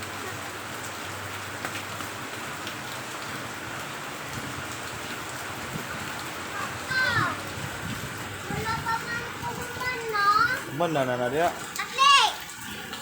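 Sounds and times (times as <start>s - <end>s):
raindrops ticking: 0.0s - 13.0s
steady rain hiss: 0.0s - 13.0s.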